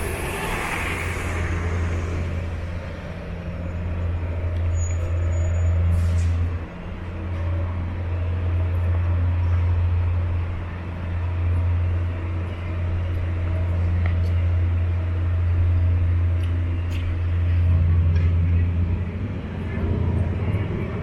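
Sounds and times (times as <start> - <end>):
city street traffic: 0.0 - 21.0
heavy vehicle engine drone: 0.0 - 21.0.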